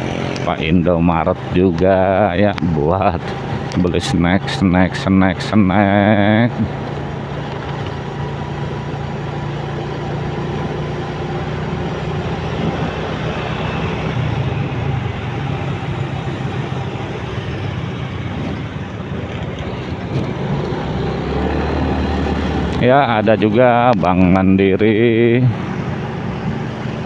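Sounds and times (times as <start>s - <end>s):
motorcycle engine running: 0.0s - 27.0s
other motorcycles and scooters: 0.0s - 27.0s
wind and road noise: 0.0s - 27.0s.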